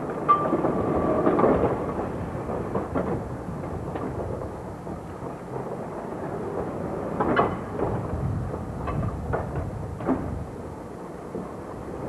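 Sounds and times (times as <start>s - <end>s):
streetcar rolling on rails: 0.0s - 12.0s.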